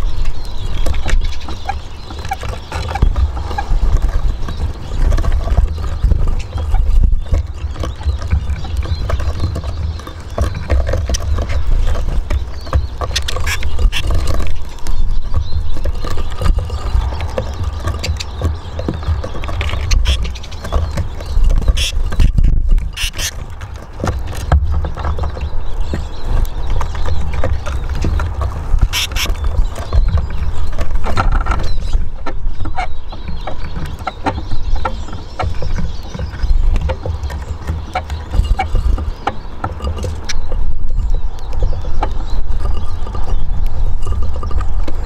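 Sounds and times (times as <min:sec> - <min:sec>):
birds tapping on wooden table: 0:00.0 - 0:45.0
low wind rumble on microphone: 0:00.0 - 0:45.0.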